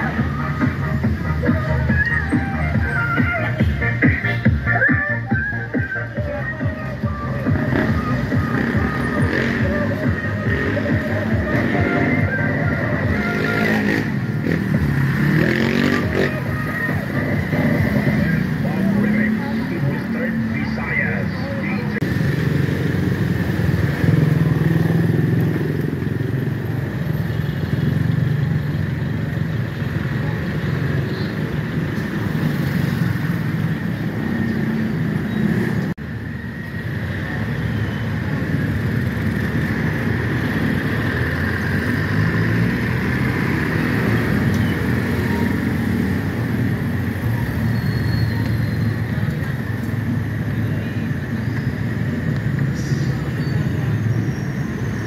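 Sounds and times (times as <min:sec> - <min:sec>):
traffic engines and road rumble: 0:00.0 - 0:55.0.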